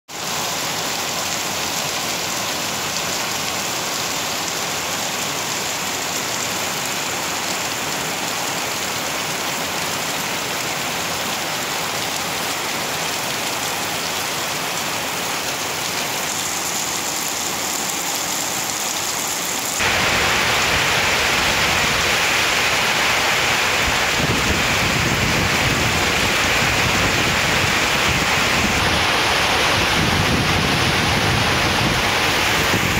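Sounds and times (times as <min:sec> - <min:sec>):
heavy rain pouring on grass: 0:00.1 - 0:32.9.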